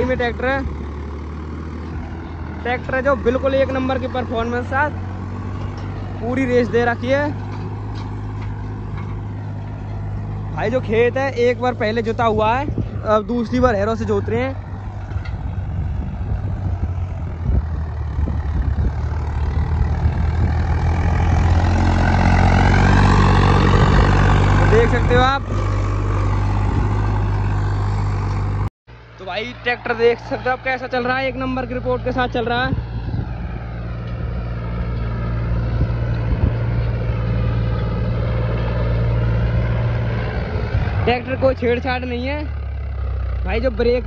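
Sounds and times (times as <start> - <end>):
tractor engine at full throttle: 0.0 - 44.0.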